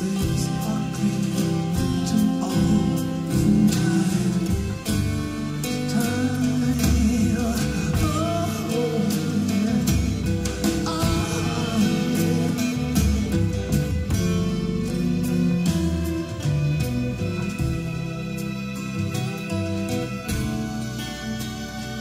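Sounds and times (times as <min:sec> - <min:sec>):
song with vocal and guitar: 0:00.0 - 0:22.0.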